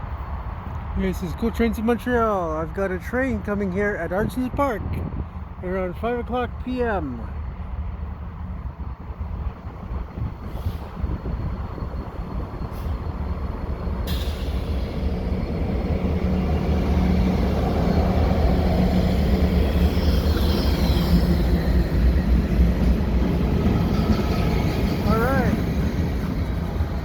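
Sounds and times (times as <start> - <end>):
locomotive engine rumble: 0.1 - 27.0.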